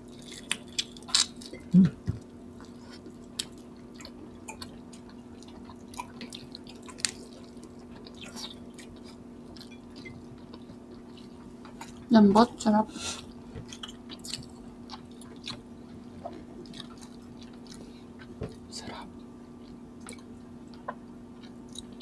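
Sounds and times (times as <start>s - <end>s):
people chewing: 0.0s - 12.1s, 12.9s - 19.0s, 19.6s - 22.0s
steady low hum: 0.0s - 22.0s.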